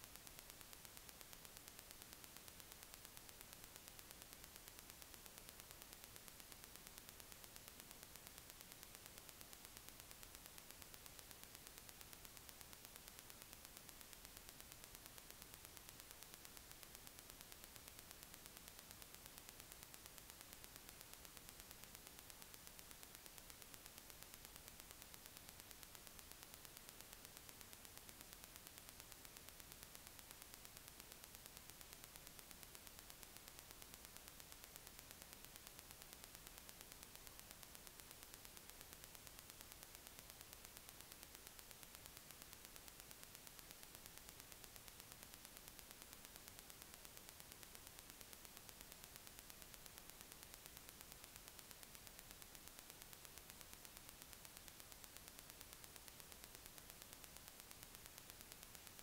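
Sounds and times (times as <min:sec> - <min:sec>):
faint electronic hiss: 0:00.0 - 0:59.0.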